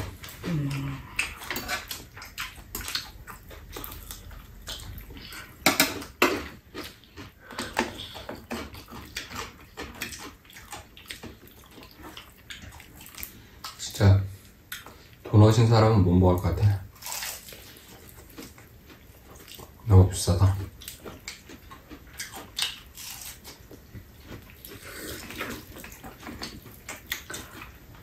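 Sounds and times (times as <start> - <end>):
chewing and lip-smacking: 0.0 - 15.3, 17.0 - 19.8, 20.4 - 28.0.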